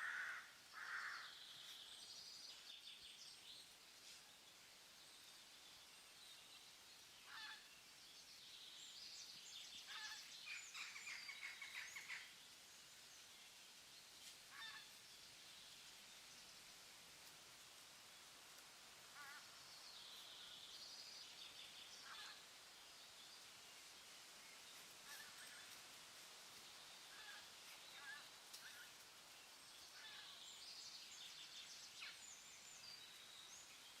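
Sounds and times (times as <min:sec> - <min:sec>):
soft high background hiss: 0:00.0 - 0:34.0.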